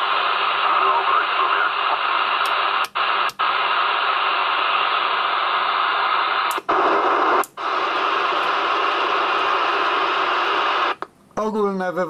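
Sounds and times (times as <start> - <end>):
radio static hissing: 0.0 - 11.0.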